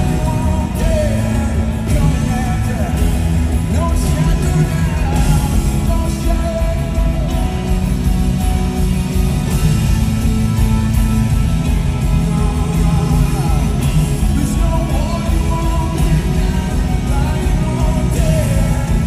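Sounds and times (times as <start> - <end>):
man singing: 0.0 - 8.0, 11.7 - 19.0
acoustic guitar: 0.0 - 19.0
drums: 0.0 - 19.0
electric bass: 0.0 - 19.0.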